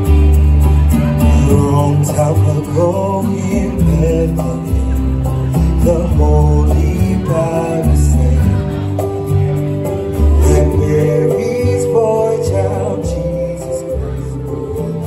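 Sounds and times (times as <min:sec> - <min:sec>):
slow music with singing: 0:00.0 - 0:15.0.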